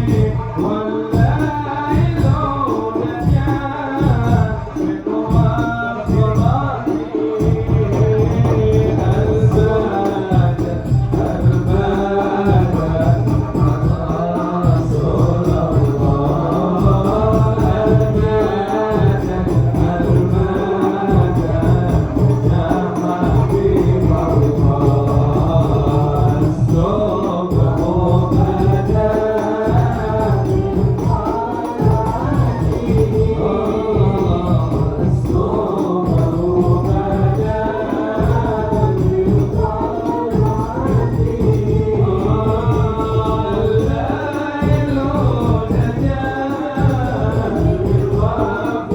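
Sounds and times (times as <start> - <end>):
devotional chant singing: 0.0 - 48.9
frame drums beating: 0.0 - 48.9.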